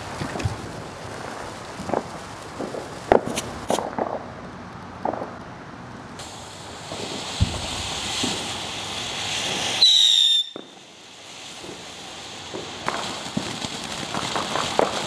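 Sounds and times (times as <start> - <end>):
fountain firework hissing: 0.0 - 4.4, 6.1 - 15.0
firework pops and crackles: 0.0 - 15.0.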